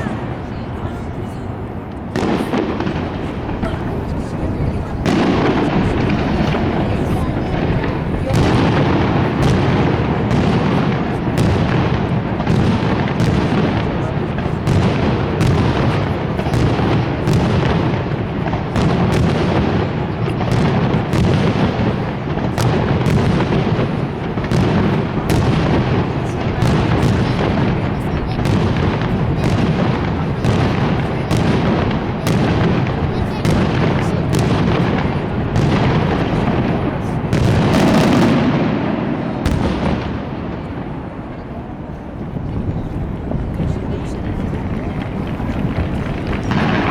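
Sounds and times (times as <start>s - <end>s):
fireworks booming and cracking: 0.0s - 46.9s.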